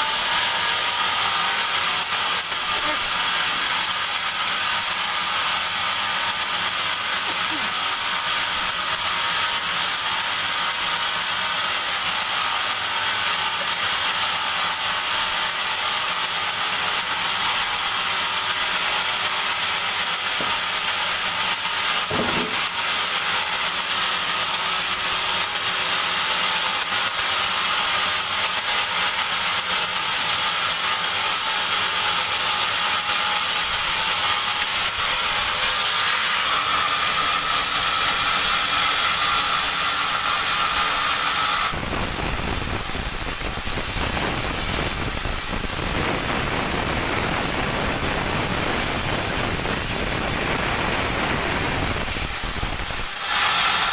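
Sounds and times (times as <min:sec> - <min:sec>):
band saw cutting log: 0:00.0 - 0:53.9.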